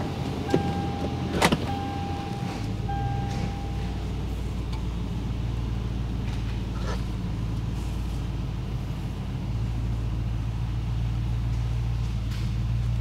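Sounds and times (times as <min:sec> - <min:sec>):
engine low rumbling: 0:00.0 - 0:13.0.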